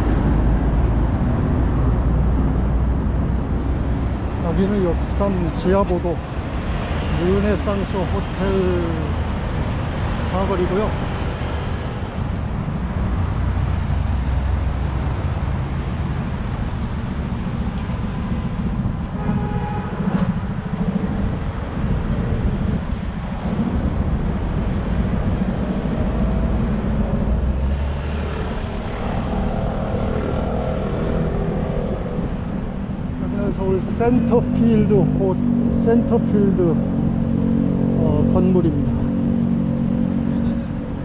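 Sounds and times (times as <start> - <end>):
road traffic rumble: 0.0 - 41.0.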